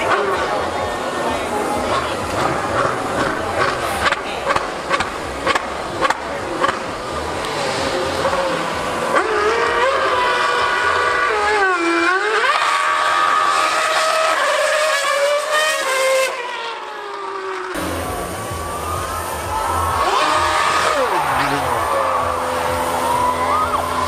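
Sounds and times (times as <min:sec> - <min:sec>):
racing car engine passing: 0:00.0 - 0:24.0.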